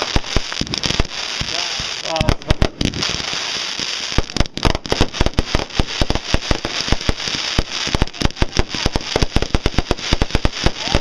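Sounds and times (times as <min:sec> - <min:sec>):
crackling hiss: 0:00.0 - 0:11.0
fireworks bangs: 0:00.0 - 0:11.0.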